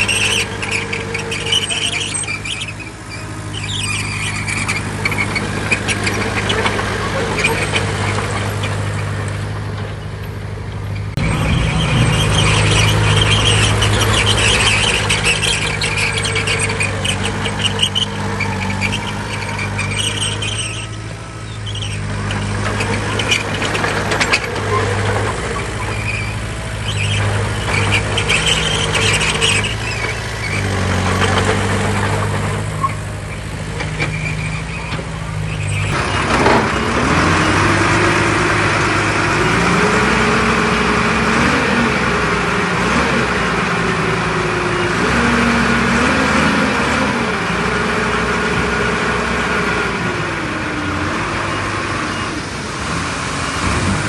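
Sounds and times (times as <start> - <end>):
bulldozer diesel engine: 0.0 - 54.0
crawler tracks squealing: 0.0 - 54.0.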